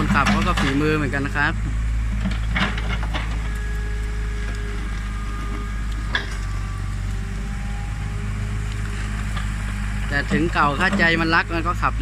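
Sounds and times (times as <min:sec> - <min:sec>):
excavator diesel engine running: 0:00.0 - 0:12.0
faint steady whines: 0:00.8 - 0:12.0.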